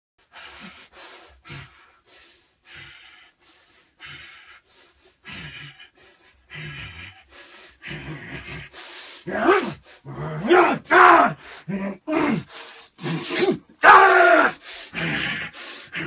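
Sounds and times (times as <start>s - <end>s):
man panting with grunts: 0.2s - 16.0s.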